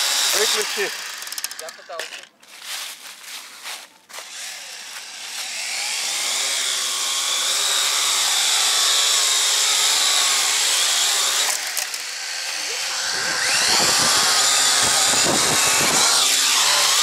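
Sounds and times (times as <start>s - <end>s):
toy drone propellers whining: 0.0s - 2.3s, 4.1s - 17.0s.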